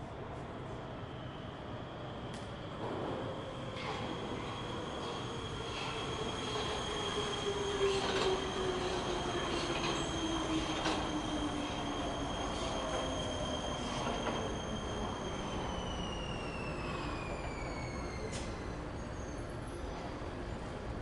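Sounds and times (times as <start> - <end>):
train wheel squeal: 2.8 - 20.7.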